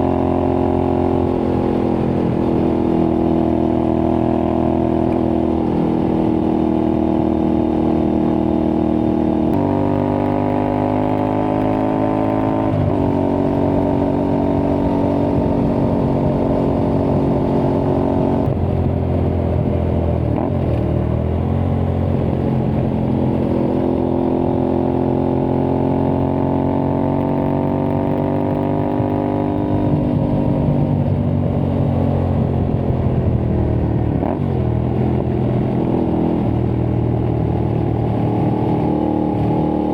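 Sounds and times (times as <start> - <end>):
motorcycle engine riding: 0.0 - 39.9
wind noise: 0.0 - 39.9.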